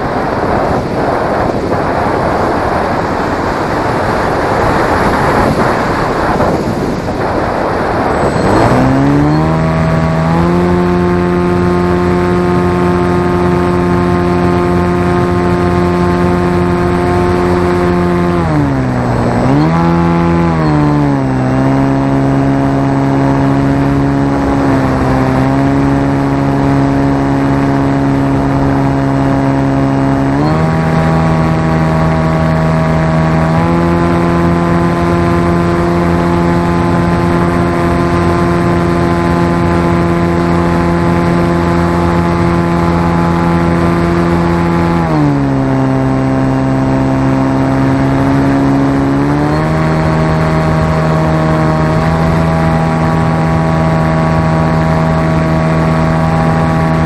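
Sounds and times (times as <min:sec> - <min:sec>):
electric motor whine: 0:00.0 - 0:57.0
wind rushing over airframe: 0:00.0 - 0:57.0.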